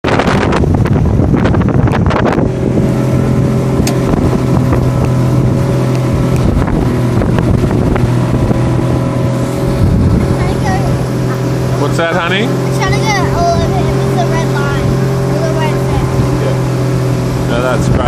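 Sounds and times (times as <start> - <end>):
motorboat engine running: 0.0 - 18.0
wind buffeting microphone: 0.0 - 18.0.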